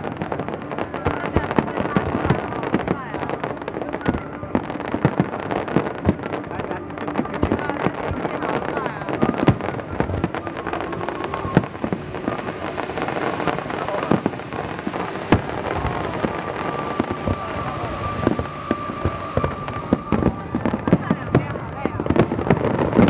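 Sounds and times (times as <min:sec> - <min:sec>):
crackling rumble: 0:00.0 - 0:23.0
steady high tone: 0:00.0 - 0:23.0
fireworks shells bursting: 0:03.9 - 0:23.0.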